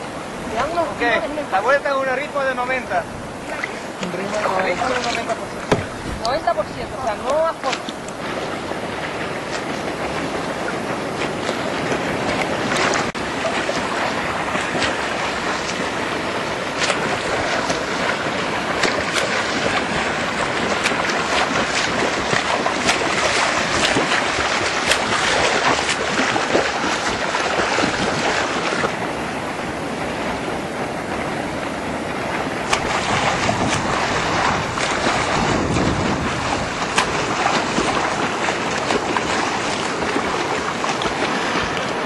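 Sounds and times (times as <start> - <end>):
sea water splashing: 0.0 - 42.0
wind buffeting microphone: 0.0 - 42.0
swimmers' arm strokes splashing: 3.4 - 6.5, 7.2 - 29.3, 32.0 - 42.0.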